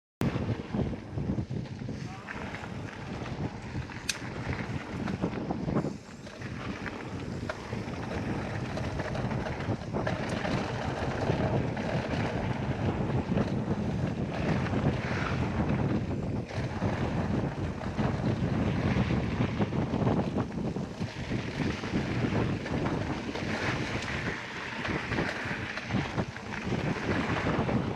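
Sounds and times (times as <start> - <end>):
wind rushing over microphone: 0.2 - 27.9
bike clicks and knocks: 1.5 - 27.9.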